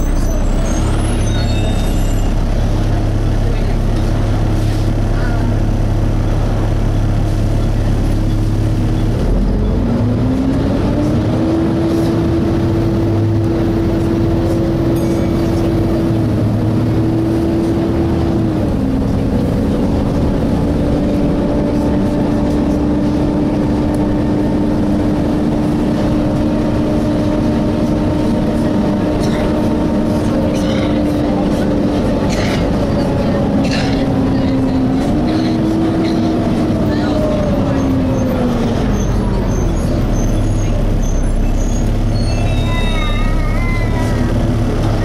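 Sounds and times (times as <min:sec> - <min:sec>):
diesel engine rumble: 0:00.0 - 0:45.0.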